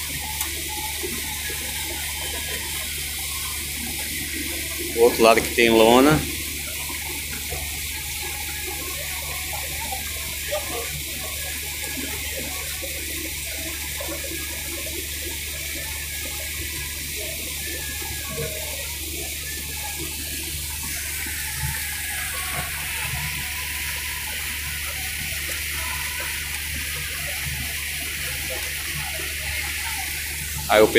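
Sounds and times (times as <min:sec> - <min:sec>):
boat engine drone: 0:00.0 - 0:30.9
water rushing along boat hull: 0:00.0 - 0:30.9.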